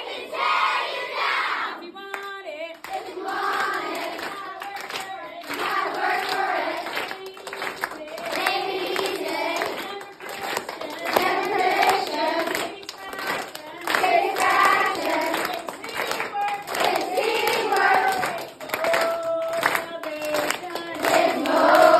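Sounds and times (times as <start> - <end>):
young voices singing and chanting: 0.0 - 21.9
hand claps: 2.1 - 21.9.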